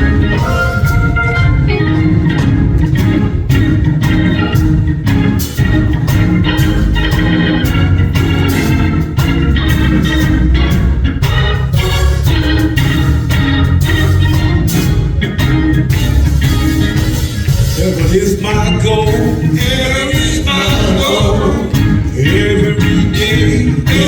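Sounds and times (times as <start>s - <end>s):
bass: 0.0s - 24.0s
drums keeping steady beat: 0.0s - 24.0s
organ chords: 0.0s - 24.0s.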